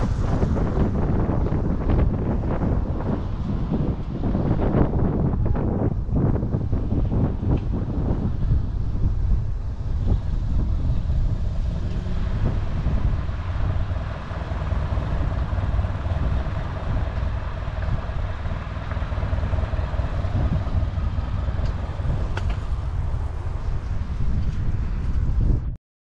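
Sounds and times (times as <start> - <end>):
road traffic noise: 0.0 - 25.7
wind rumble on microphone: 0.0 - 25.8.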